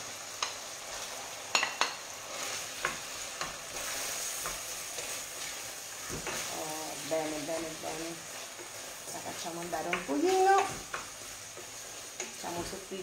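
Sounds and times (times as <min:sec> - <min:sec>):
soffritto sizzling in a pot: 0:00.0 - 0:13.0.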